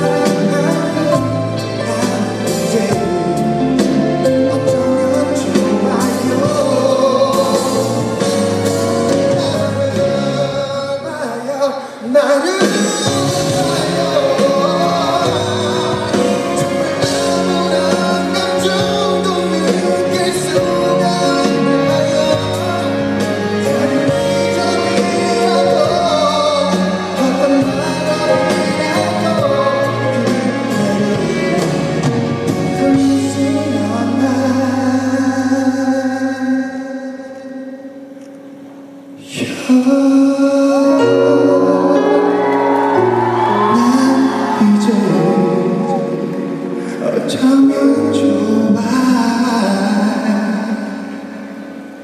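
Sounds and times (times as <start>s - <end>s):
live band playing: 0.0s - 36.7s, 37.6s - 52.0s
man singing live: 0.0s - 38.2s, 39.2s - 52.0s.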